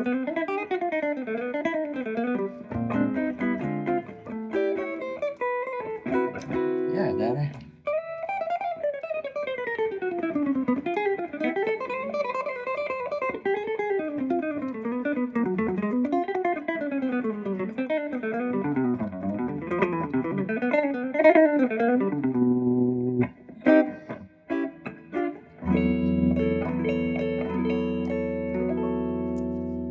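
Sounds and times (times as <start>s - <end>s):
guitar chords ringing: 0.0s - 29.9s
guitar picking: 0.0s - 29.9s.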